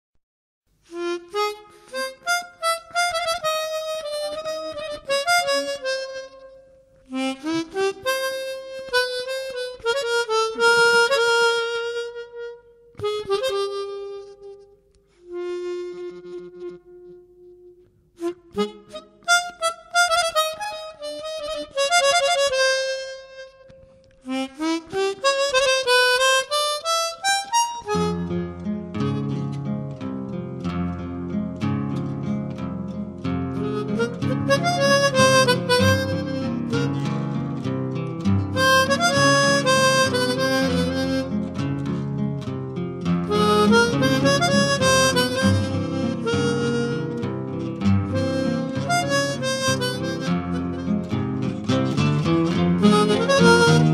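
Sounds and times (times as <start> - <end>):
guitar accompaniment: 0.8 - 53.9
wind instrument melody: 0.9 - 30.0, 33.5 - 53.9.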